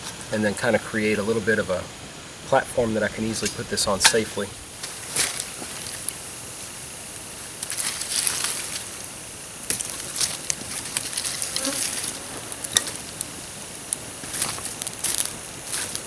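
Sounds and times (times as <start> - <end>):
campfire crackling: 0.0 - 16.0
wood and coals rustling: 0.0 - 16.0.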